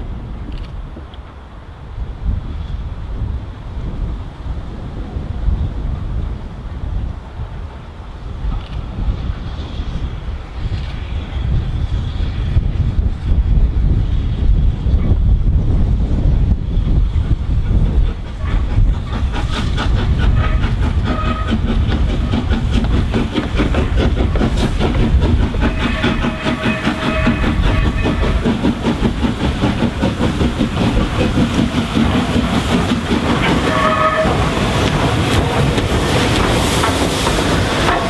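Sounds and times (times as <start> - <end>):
steam locomotive exhaust beats: 0.0 - 38.0
wheels on rail joints: 0.0 - 38.0.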